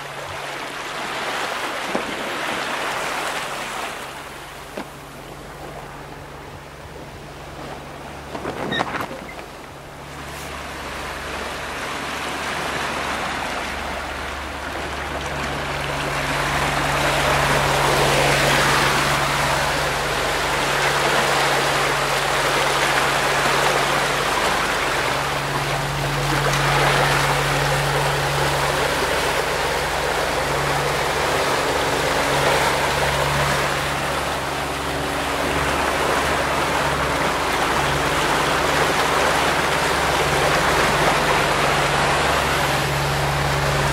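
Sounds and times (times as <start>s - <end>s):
low steady hum: 0.0s - 43.9s
sea water rushing and splashing: 0.0s - 43.9s.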